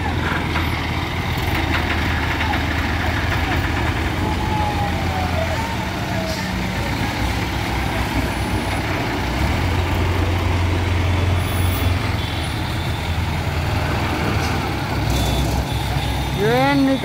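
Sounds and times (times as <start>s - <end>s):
crane diesel engine driving past: 0.0s - 17.0s.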